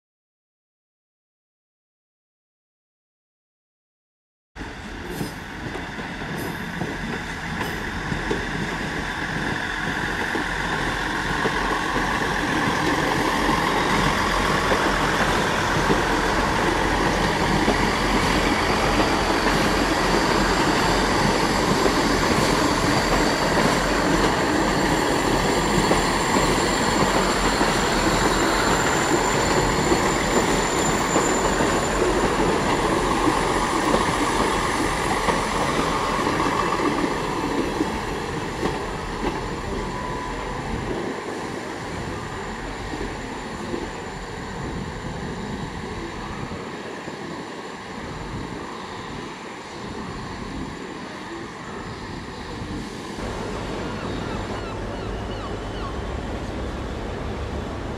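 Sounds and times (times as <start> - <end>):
diesel train engine: 4.6 - 57.9.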